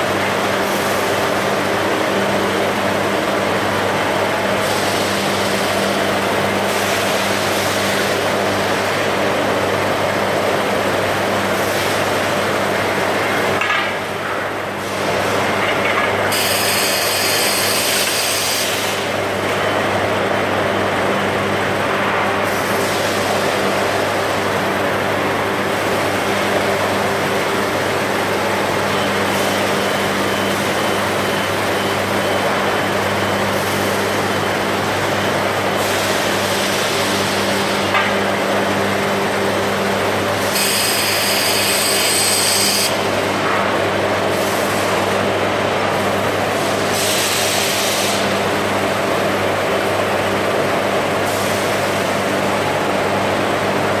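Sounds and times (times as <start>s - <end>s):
factory machinery noise: 0.0s - 54.0s.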